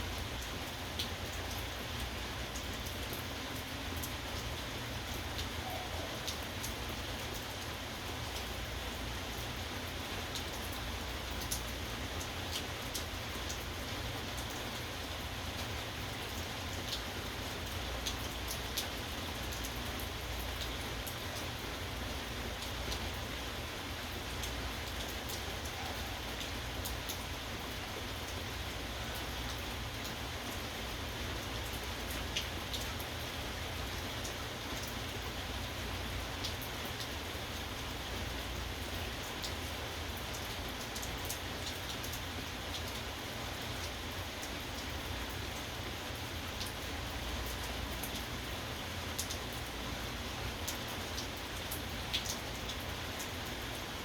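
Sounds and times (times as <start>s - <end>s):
steady rainfall: 0.0s - 54.0s
raindrops ticking on hard surface: 0.1s - 23.4s, 24.0s - 54.0s.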